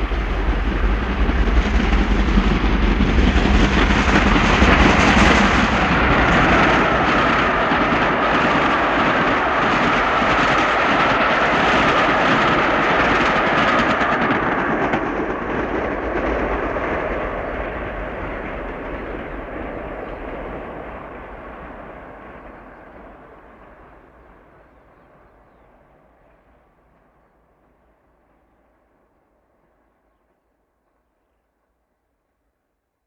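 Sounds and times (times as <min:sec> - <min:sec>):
steam train running past: 0:00.0 - 0:31.4.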